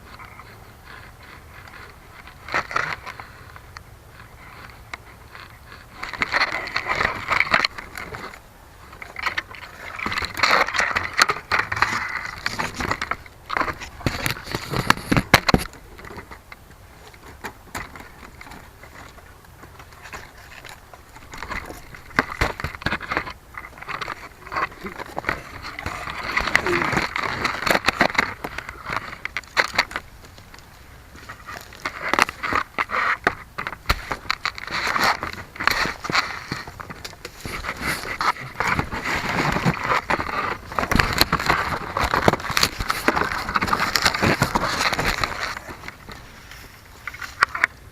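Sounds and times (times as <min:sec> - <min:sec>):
crackles and scraping clicks: 0:00.0 - 0:47.9.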